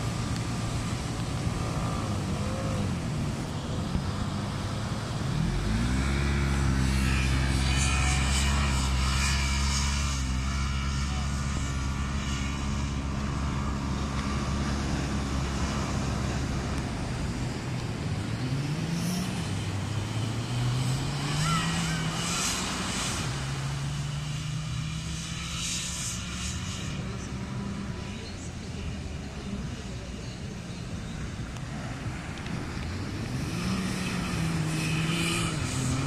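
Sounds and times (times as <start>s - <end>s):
utility vehicle engine revving: 0.0s - 36.0s
wind: 0.0s - 36.0s.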